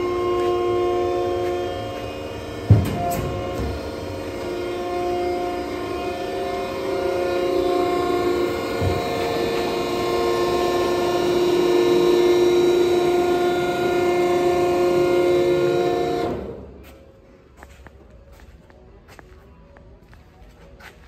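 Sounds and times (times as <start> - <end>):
hydraulic power unit humming: 0.0 - 21.0.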